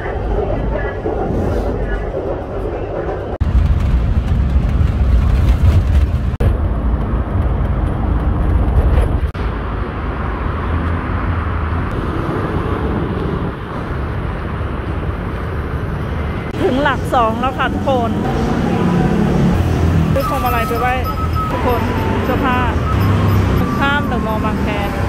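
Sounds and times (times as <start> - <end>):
bus engine rumble: 0.0 - 25.0
heavy traffic: 0.0 - 25.0.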